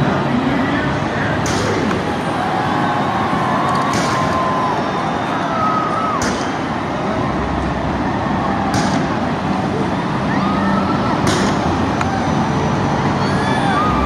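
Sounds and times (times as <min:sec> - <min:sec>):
dense steady noise: 0:00.0 - 0:14.0.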